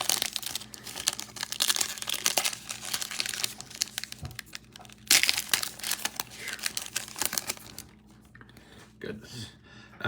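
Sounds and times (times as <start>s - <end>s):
plastic wrapper crinkling: 0.0s - 8.1s.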